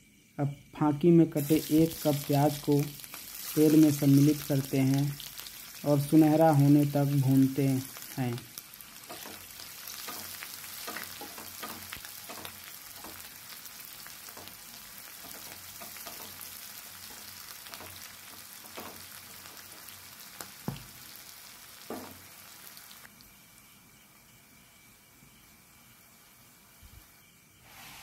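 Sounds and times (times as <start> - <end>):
onions sizzling in oil: 0.6 - 28.0.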